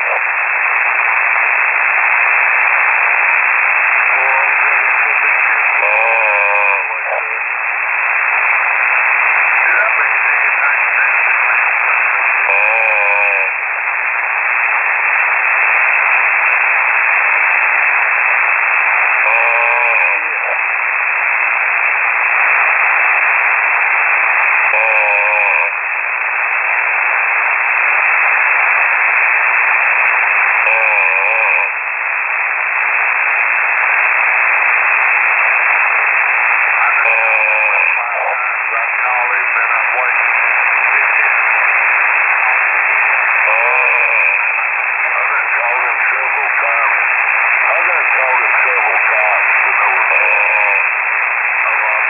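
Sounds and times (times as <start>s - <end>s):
man snoring over radio: 0.0s - 25.8s, 26.6s - 52.0s
radio static hiss: 0.0s - 52.0s.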